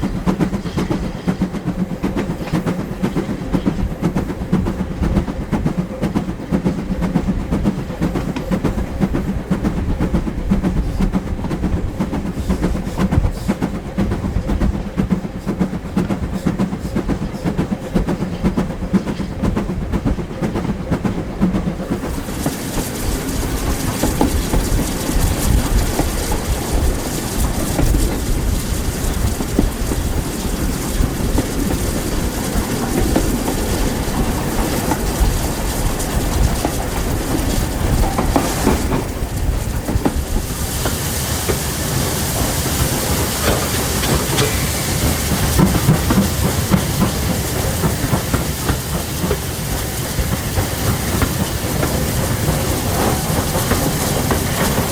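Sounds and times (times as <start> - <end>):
steady steam hiss: 0.0 - 54.9
steam train rumbling: 0.0 - 54.9
wheels clacking over rail joints: 0.0 - 54.9.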